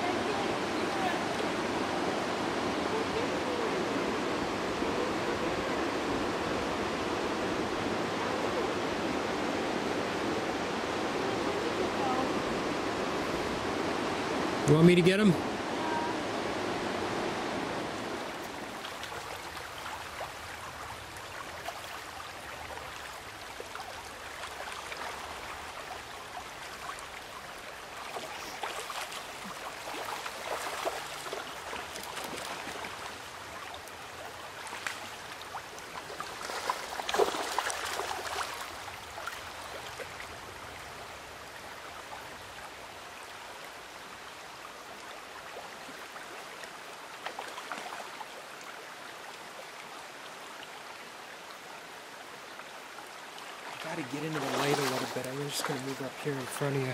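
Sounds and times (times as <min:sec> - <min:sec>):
creek water over rocks: 0:00.0 - 0:56.9.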